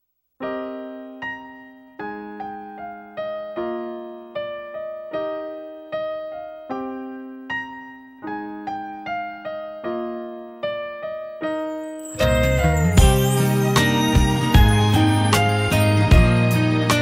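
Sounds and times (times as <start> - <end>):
solo piano slow melody: 0.4 - 17.0.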